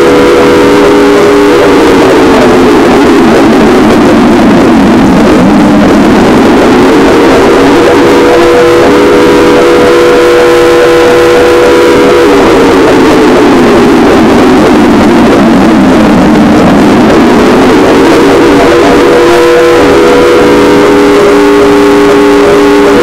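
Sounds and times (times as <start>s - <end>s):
distorted siren wailing: 0.0s - 23.0s.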